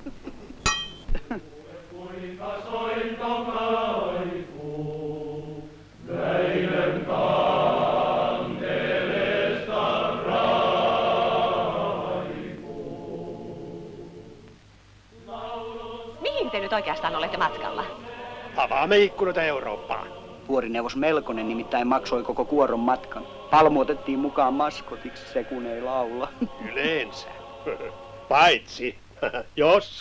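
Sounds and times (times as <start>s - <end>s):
men's choir singing: 1.4s - 14.5s, 15.1s - 28.8s.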